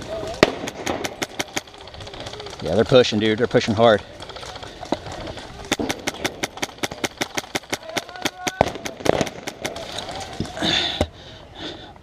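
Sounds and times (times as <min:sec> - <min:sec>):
airsoft guns firing: 0:00.1 - 0:10.6.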